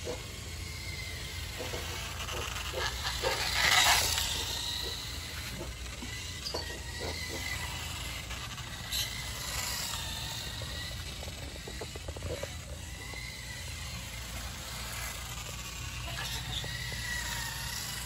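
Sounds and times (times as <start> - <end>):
toy motorcycle motor whining: 0.0 - 18.0.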